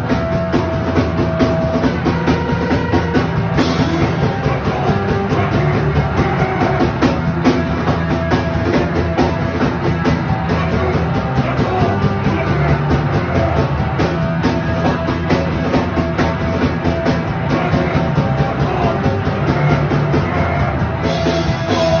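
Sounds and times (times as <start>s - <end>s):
drum kit fast beat: 0.0s - 22.0s
live rock band playing: 0.0s - 22.0s.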